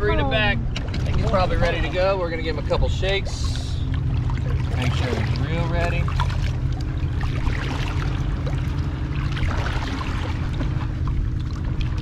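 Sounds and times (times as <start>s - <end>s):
steady low rumble: 0.0s - 12.0s
water splashing against boat: 0.0s - 12.0s.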